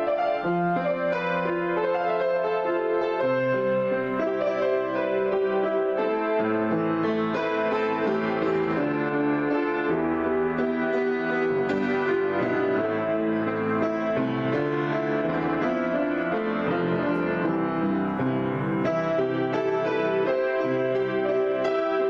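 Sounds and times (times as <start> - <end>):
grand piano improvisation: 0.0 - 22.0.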